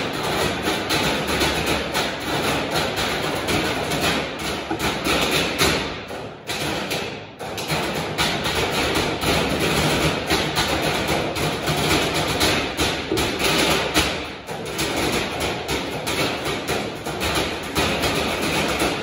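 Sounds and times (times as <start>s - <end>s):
sticks drumming on metal trash cans: 0.0s - 19.0s.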